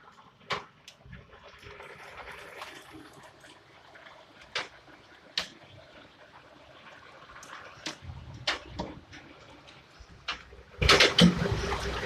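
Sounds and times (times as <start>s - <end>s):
heavy rain pouring: 1.4s - 12.0s.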